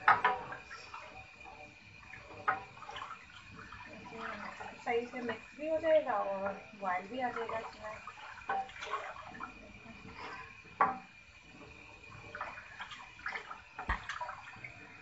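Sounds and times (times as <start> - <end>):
liquid sloshing in a pot: 0.0 - 15.0.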